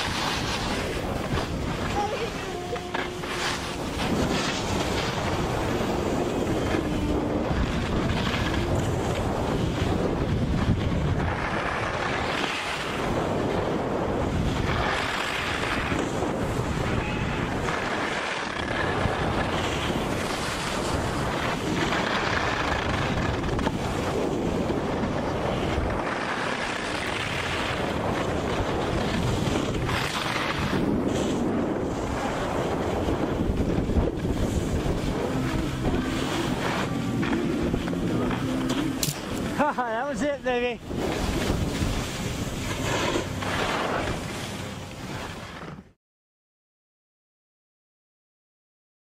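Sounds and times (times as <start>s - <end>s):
snowboard edges carving snow: 0.0s - 46.0s
wind on microphone: 0.0s - 46.0s.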